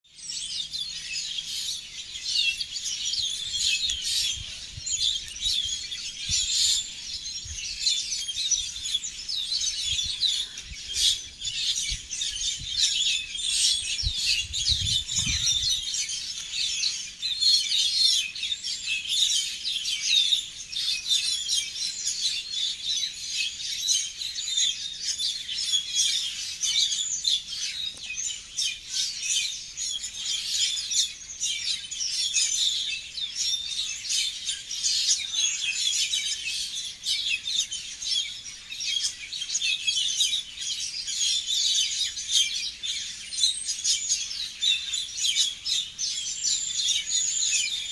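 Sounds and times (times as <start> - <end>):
many small birds chirping: 0.0 - 47.9.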